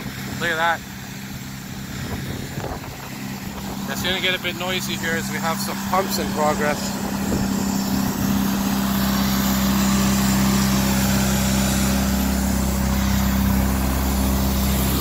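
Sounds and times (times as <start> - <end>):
water pump engine droning: 0.0 - 15.0.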